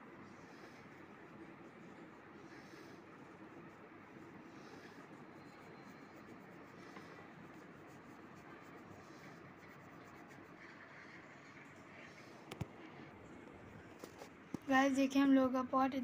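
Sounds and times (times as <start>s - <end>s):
paintbrush scratching on paper: 0.0s - 13.1s.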